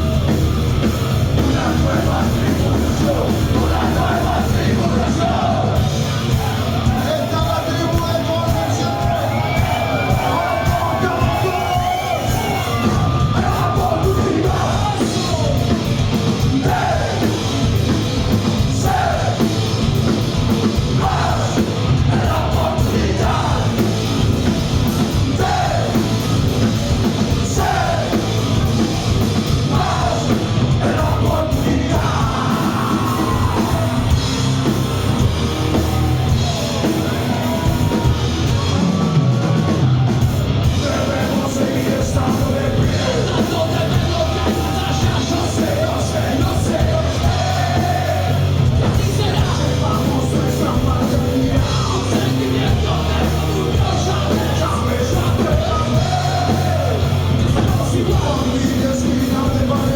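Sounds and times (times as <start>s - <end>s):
heavy rock band playing: 0.0s - 59.9s
shouted lead vocal: 0.0s - 59.9s.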